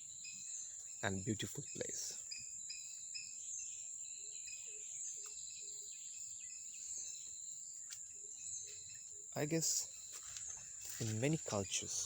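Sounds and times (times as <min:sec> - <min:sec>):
bird chirps: 0:00.0 - 0:12.0
insects droning: 0:00.0 - 0:12.0.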